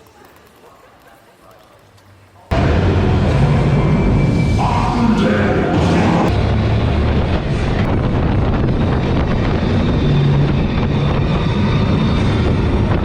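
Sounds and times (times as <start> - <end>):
ride vehicle rumbling: 2.4 - 13.0.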